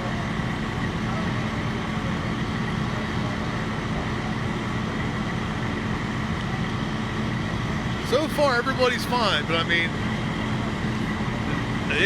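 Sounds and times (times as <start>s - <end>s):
fire truck diesel engines running: 0.0s - 12.0s.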